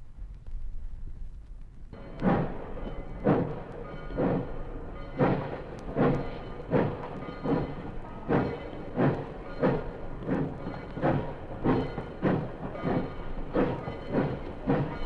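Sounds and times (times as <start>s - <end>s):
steam locomotive chuffing: 2.0s - 15.0s.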